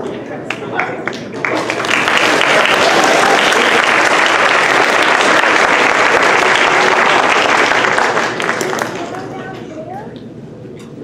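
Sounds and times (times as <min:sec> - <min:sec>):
audience applauding: 0:00.5 - 0:09.4.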